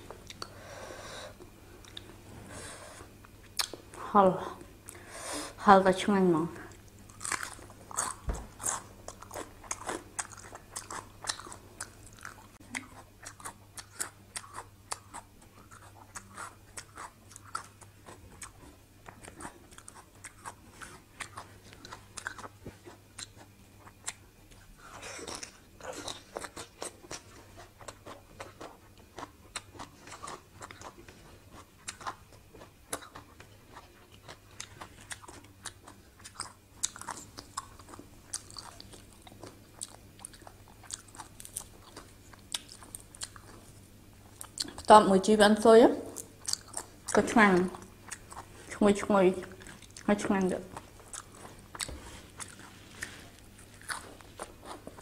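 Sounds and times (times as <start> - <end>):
person chewing crunchy food: 0.0 - 0.6, 1.3 - 4.0, 6.7 - 44.9, 46.1 - 55.0.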